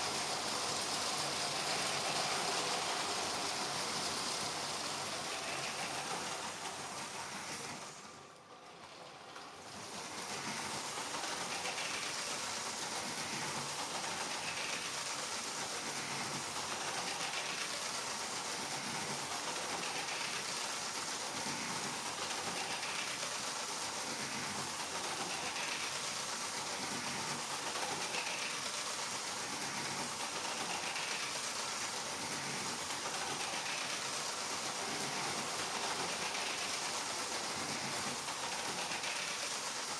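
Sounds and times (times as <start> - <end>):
toy train motors and wheels whirring: 0.0 - 39.9.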